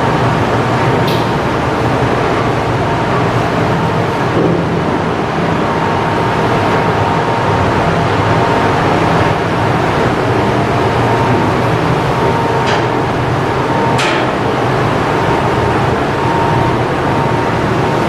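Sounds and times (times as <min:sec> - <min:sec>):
diesel engine humming: 0:00.0 - 0:18.0
faint steady whine: 0:00.0 - 0:18.0.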